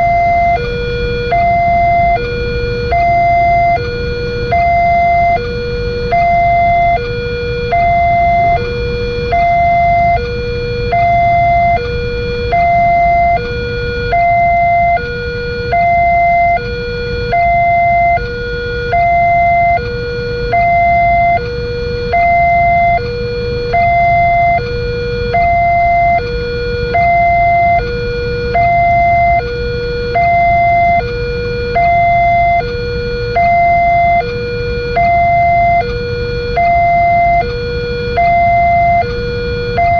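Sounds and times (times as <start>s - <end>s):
level crossing two-tone alarm: 0.0s - 39.9s
steady low rumble: 0.0s - 39.9s.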